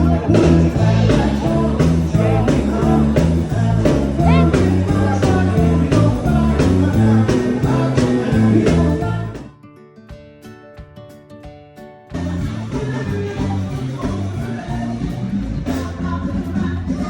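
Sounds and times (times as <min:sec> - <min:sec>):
bass line: 0:00.0 - 0:09.5, 0:12.1 - 0:17.0
drums steady beat: 0:00.0 - 0:09.5, 0:10.1 - 0:17.0
person singing: 0:00.0 - 0:09.6, 0:12.2 - 0:17.0
electric guitar: 0:00.0 - 0:17.0.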